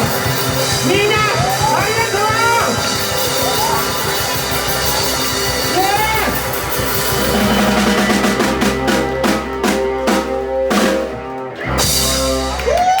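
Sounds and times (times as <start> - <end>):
drum kit accents: 0.0 - 12.6
rock band playing: 0.0 - 13.0.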